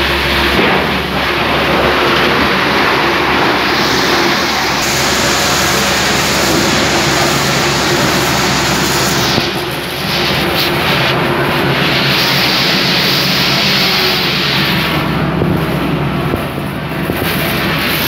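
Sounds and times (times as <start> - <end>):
plastic granulator running: 0.0 - 18.0.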